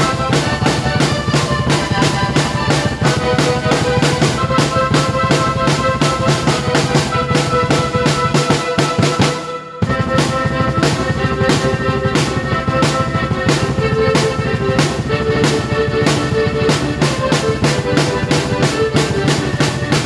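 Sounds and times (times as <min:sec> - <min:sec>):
drum beat: 0:00.0 - 0:20.0
held keyboard notes: 0:00.0 - 0:20.0.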